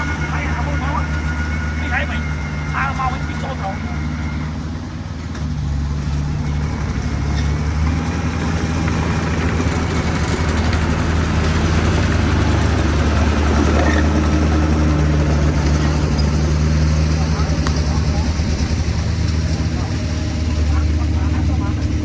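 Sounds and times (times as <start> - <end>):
diesel engine running: 0.0 - 22.0
rushing noise: 0.0 - 22.0.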